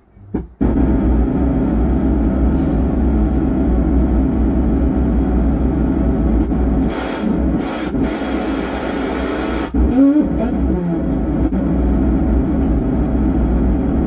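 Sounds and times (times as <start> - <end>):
heavy low hum: 0.0 - 14.0
distorted rumbling from loudspeaker: 0.2 - 14.0.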